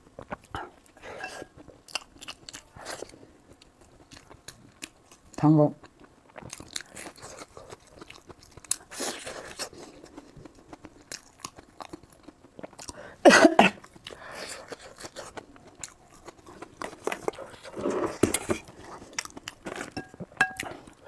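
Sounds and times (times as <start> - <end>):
person chewing crunchy food: 0.0 - 21.0.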